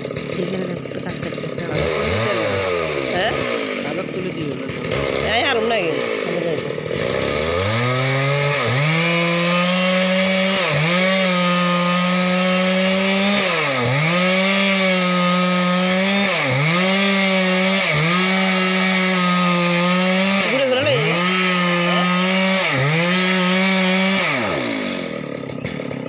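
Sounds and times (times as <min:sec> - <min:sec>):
chainsaw cutting a log: 0:00.0 - 0:26.0.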